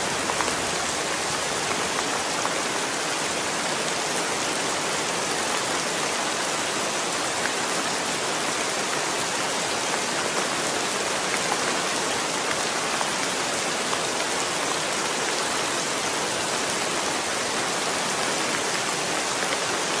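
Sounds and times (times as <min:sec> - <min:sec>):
heavy rain on stone: 0:00.0 - 0:20.0.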